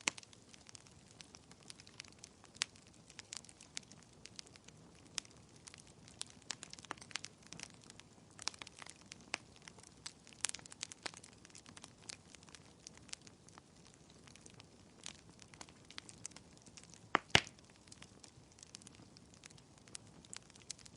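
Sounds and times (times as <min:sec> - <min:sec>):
low steady hiss: 0:00.0 - 0:20.9
wood fire crackling: 0:00.0 - 0:20.9.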